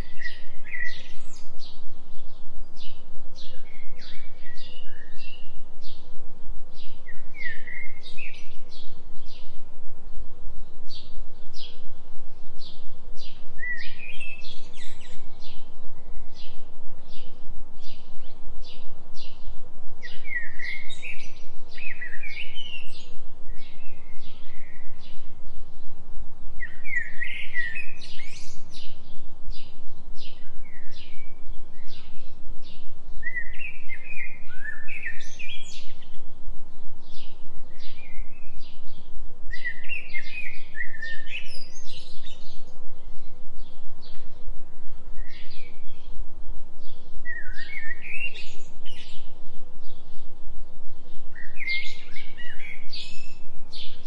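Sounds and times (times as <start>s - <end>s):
birds chirping: 0.0s - 54.0s
low steady tone: 0.0s - 54.0s.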